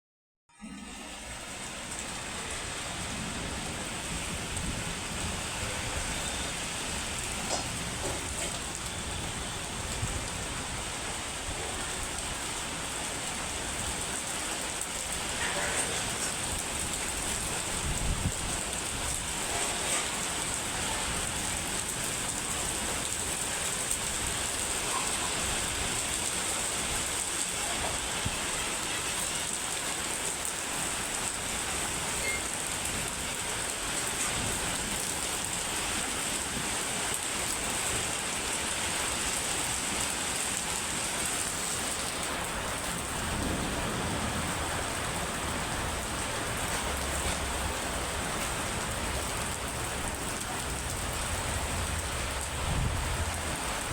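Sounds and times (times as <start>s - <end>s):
heavy rain falling: 0.7s - 53.9s.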